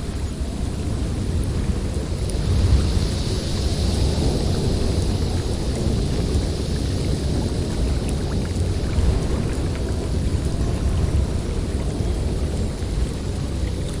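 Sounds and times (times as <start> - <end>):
blizzard wind through forest: 0.0 - 14.0.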